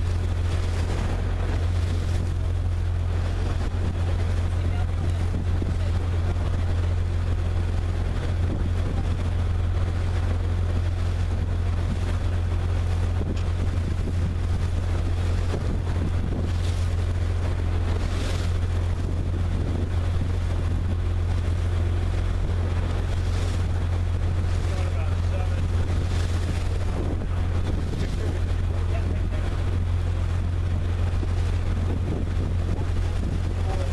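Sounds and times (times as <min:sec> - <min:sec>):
motorboat engine droning: 0:00.0 - 0:33.9
wind on microphone: 0:00.0 - 0:33.9.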